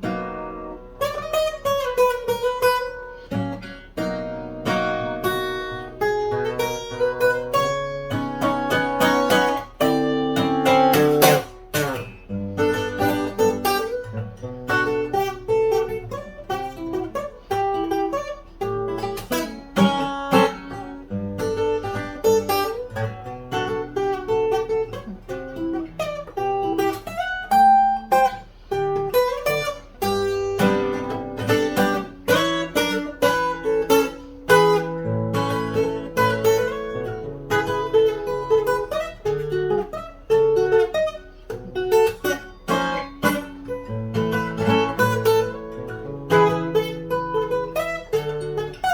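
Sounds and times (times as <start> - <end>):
acoustic guitar playing: 0.0 - 48.9.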